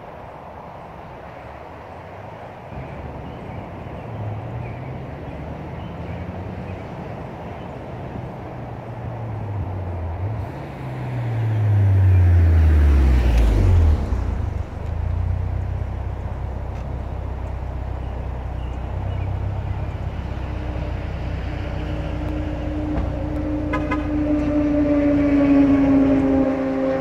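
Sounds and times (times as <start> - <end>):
highway traffic noise: 0.0 - 27.0
car exhaust passing by: 2.7 - 27.0.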